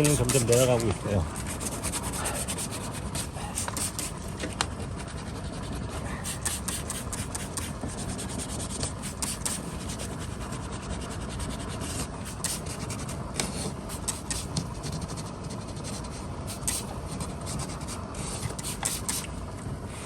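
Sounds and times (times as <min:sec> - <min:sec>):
hand sanding scratching strokes: 0:00.0 - 0:19.3.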